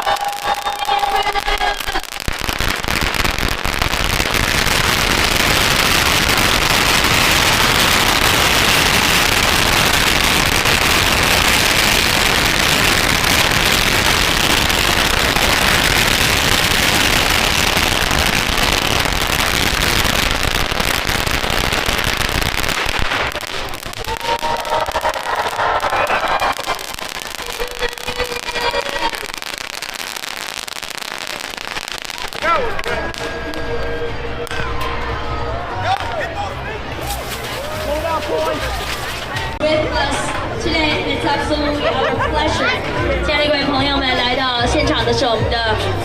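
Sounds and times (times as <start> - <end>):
firecrackers crackling: 0.0 - 35.1, 35.8 - 41.1.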